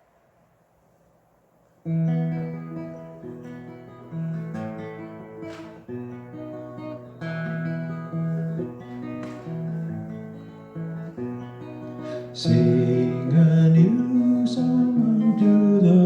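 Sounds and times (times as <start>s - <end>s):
acoustic guitar strumming chords: 1.8s - 16.0s.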